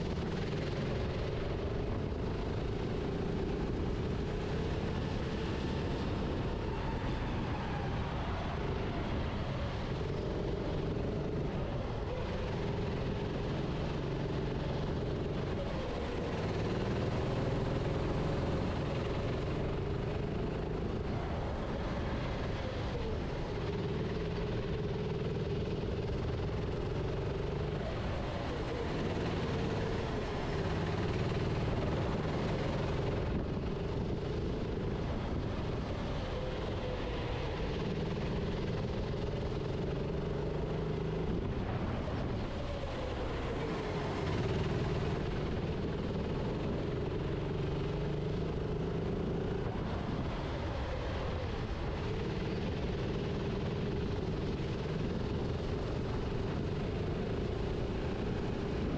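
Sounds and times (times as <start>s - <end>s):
racing kart engine: 0.0s - 58.9s.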